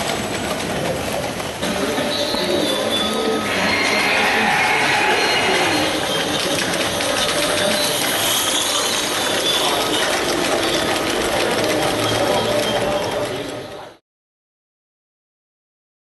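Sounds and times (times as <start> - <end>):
model train wheels clattering: 0.0 - 4.1, 4.9 - 14.0.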